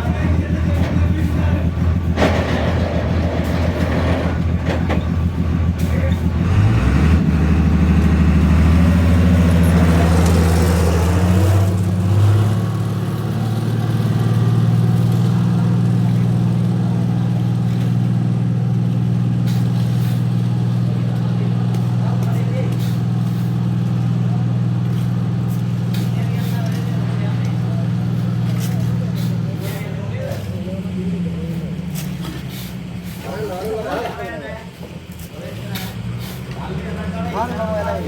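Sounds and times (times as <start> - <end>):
road roller diesel engine running: 0.0 - 38.0.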